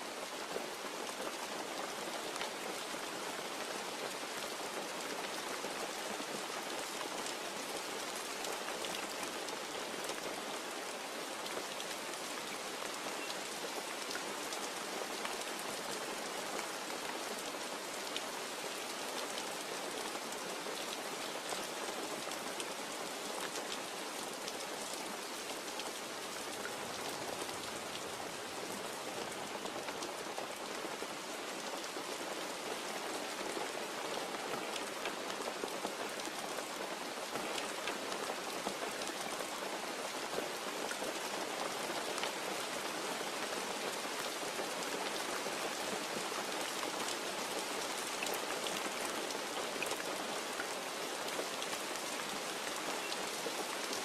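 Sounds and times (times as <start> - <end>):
rain drops spattering: 0.1 - 54.0.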